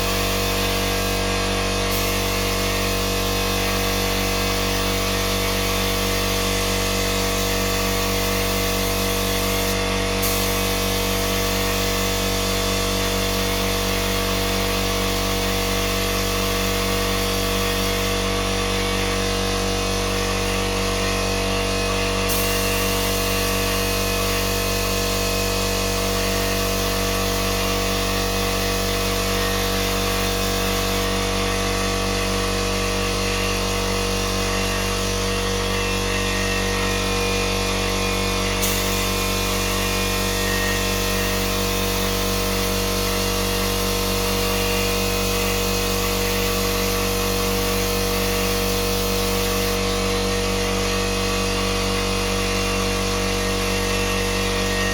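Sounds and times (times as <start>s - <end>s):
electric power tool motor running: 0.0s - 54.9s.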